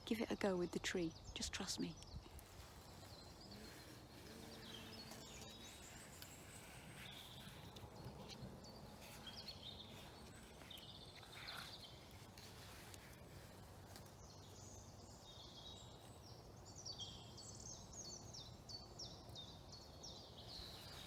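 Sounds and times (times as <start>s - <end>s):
faint bird chirps: 0.8s - 21.0s.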